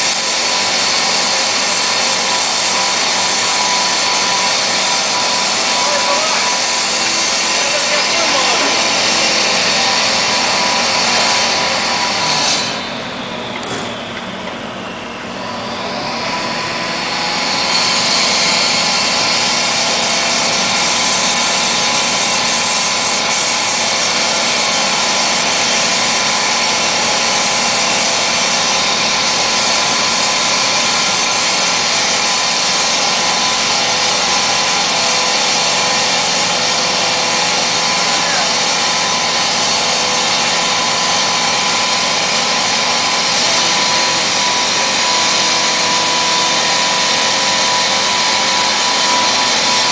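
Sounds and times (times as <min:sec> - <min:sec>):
paint-spraying machine humming: 0:00.0 - 0:49.9.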